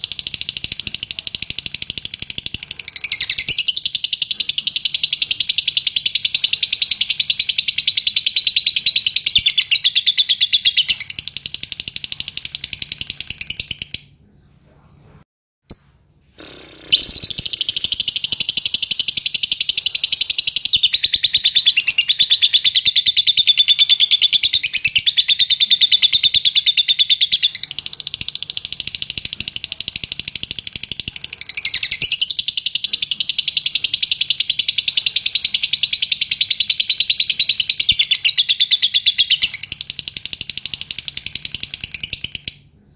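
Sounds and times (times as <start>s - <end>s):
bird chattering trill: 0.0s - 14.1s, 15.7s - 42.7s.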